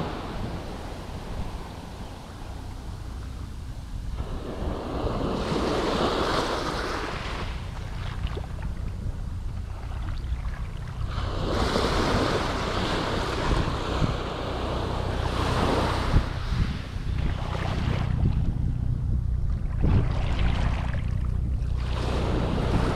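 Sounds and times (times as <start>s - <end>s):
surf washing up the beach: 0.0s - 18.5s, 21.8s - 22.9s
wind rumble on microphone: 0.0s - 22.9s.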